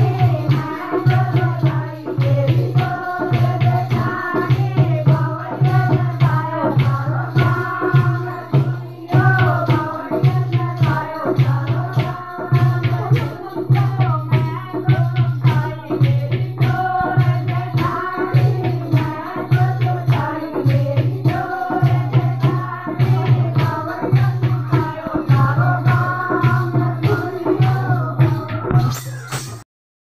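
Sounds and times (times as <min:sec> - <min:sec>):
women singing folk song: 0:00.0 - 0:28.9
rhythmic hand clapping: 0:00.0 - 0:29.6
steady drum beat: 0:00.0 - 0:29.6.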